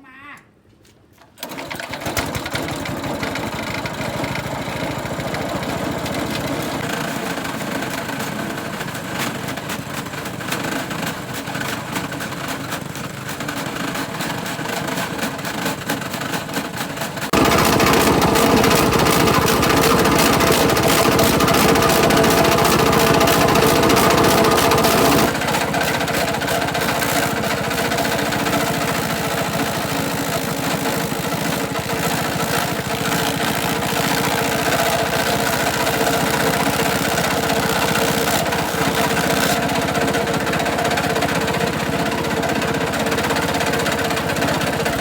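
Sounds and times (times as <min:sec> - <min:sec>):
small engine running: 0:01.4 - 0:45.0.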